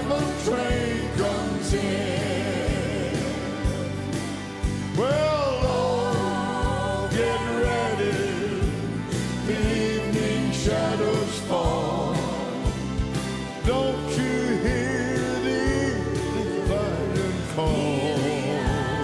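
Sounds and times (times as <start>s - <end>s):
person singing with vibrato: 0.0s - 13.0s, 13.6s - 19.0s
bass: 0.0s - 19.0s
piano: 0.0s - 19.0s
steady drum beat: 0.0s - 19.0s.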